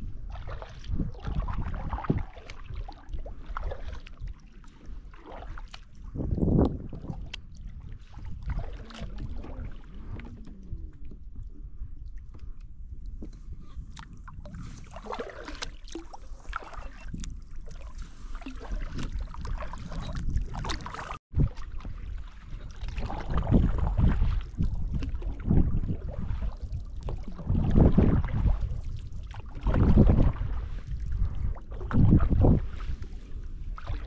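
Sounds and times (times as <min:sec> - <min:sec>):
kayak paddle strokes in water: 0:00.0 - 0:34.0
wind rumble on microphone: 0:00.0 - 0:34.0.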